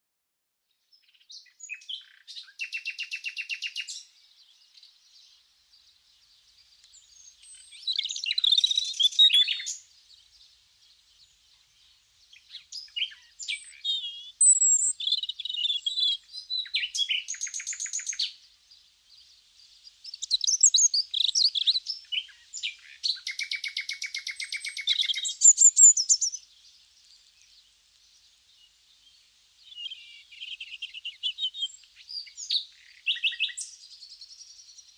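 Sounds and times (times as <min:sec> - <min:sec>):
songbird singing: 0:00.7 - 0:34.9.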